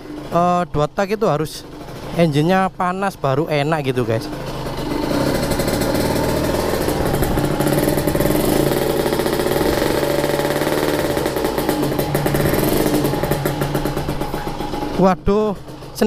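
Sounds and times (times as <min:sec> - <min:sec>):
two-stroke motorcycle engine running: 0:00.0 - 0:16.0.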